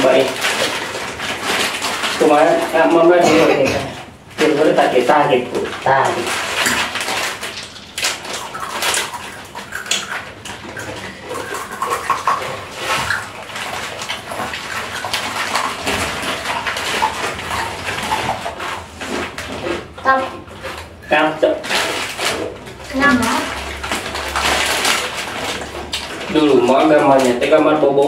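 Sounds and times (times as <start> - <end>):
crunchy snacks being chewed: 0.0 - 27.9
plastic packets crinkling: 0.0 - 28.0.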